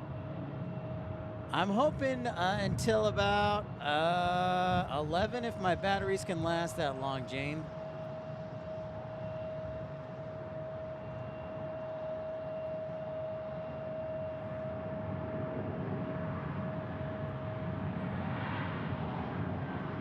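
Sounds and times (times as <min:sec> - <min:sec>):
jet engines humming and whining: 0:00.0 - 0:20.0.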